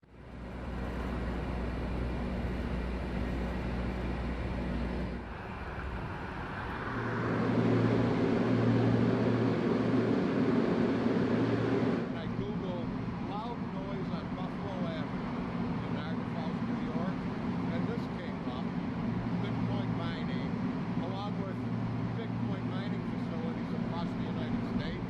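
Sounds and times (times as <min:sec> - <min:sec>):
cooling fans droning: 0:00.0 - 0:25.0.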